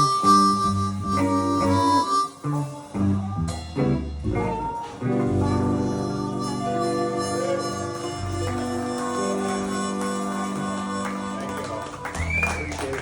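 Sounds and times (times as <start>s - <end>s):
harmonica: 0.0s - 3.4s, 4.5s - 12.2s
live blues band playing: 0.0s - 12.5s.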